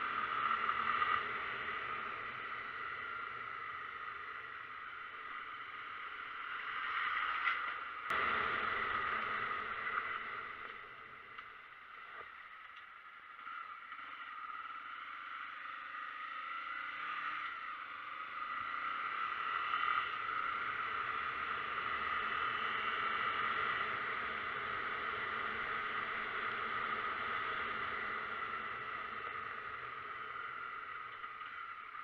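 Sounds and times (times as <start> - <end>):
vehicle driving with whine: 0.0 - 32.0.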